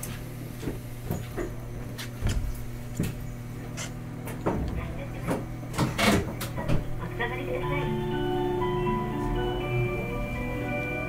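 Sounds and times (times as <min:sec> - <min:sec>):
tram equipment humming: 0:00.0 - 0:11.0.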